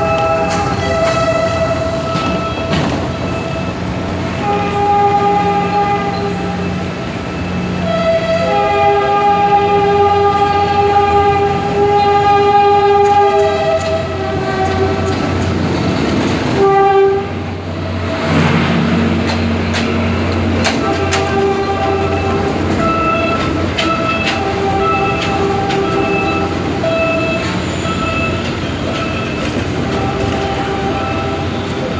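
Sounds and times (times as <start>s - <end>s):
train horn chords: 0.0s - 3.5s, 4.2s - 6.9s, 7.7s - 15.5s, 16.5s - 18.4s, 19.8s - 27.5s, 29.8s - 31.9s
train engine hum: 0.0s - 31.9s.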